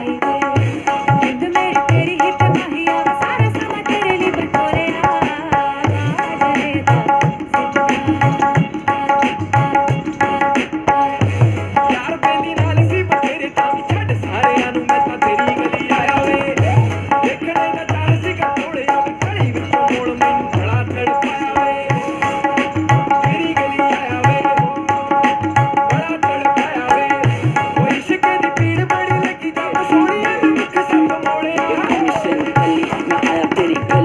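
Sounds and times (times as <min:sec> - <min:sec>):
instrumental music: 0:00.0 - 0:34.0
tabla playing: 0:00.0 - 0:34.0.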